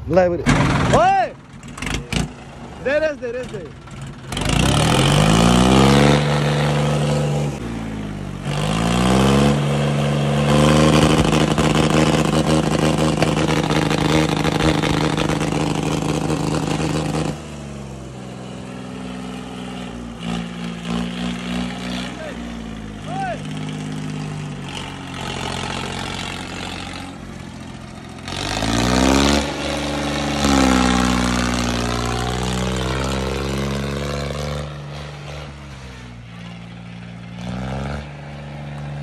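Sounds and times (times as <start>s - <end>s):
tractor diesel engine revving: 0.0s - 39.0s.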